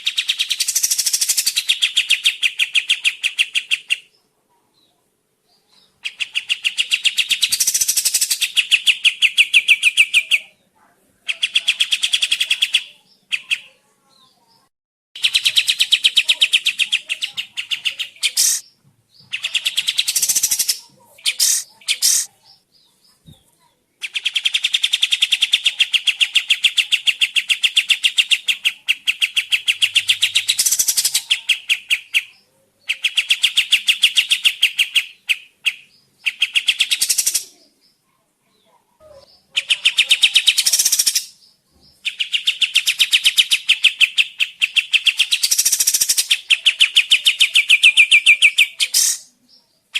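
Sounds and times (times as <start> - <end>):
bulbul chattering song: 0.0 - 4.2, 5.6 - 10.6, 11.2 - 38.0, 39.1 - 49.9.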